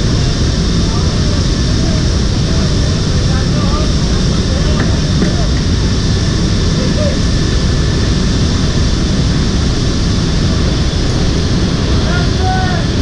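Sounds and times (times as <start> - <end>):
aircraft engines: 0.0 - 13.0.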